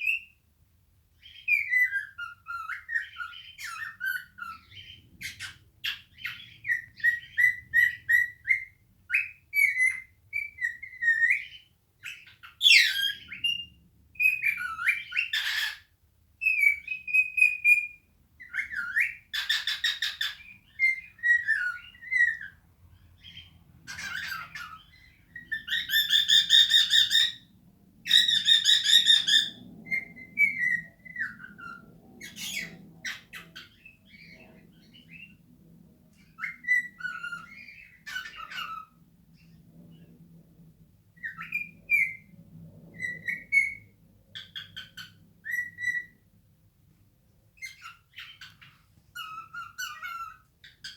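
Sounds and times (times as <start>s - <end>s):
cockatiel singing: 0.0s - 0.4s, 1.2s - 35.4s, 36.2s - 40.0s, 41.2s - 46.2s, 47.6s - 50.9s.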